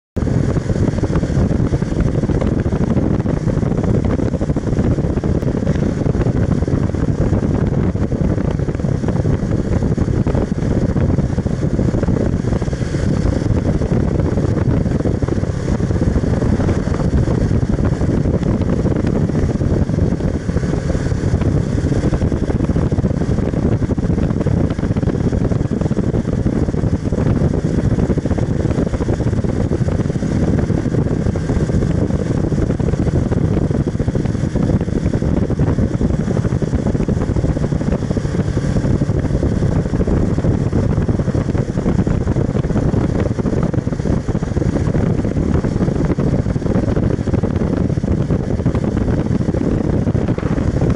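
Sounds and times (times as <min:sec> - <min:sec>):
motorcycle engine running: 0:00.0 - 0:50.9
wind rushing on microphone: 0:00.2 - 0:50.9.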